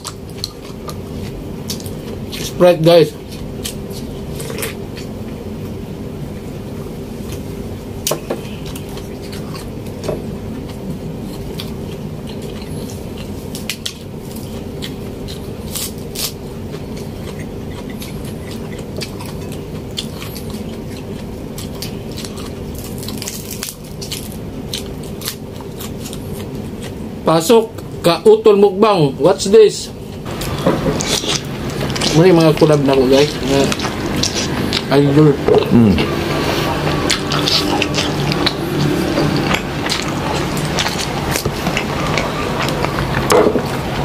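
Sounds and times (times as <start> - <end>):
chewing: 0.0 - 5.7, 8.1 - 27.0, 30.1 - 44.0
steady low hum: 0.0 - 44.0.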